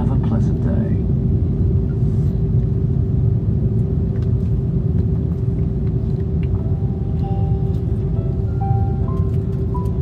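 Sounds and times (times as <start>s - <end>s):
aircraft cabin low rumble: 0.0s - 10.0s
steady hum: 0.0s - 10.0s.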